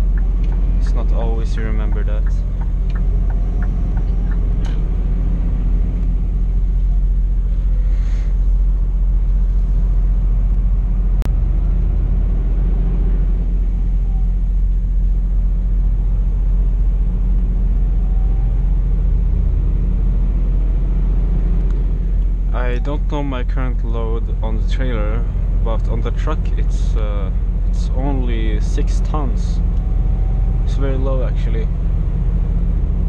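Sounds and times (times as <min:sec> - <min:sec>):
diesel truck engine rumbling: 0:00.0 - 0:33.0.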